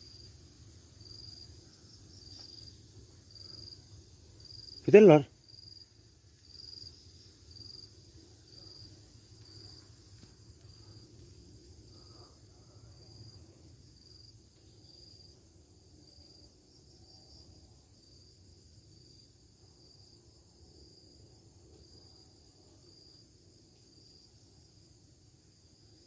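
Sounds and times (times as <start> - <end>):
faint insects chirping: 0.0 - 26.0.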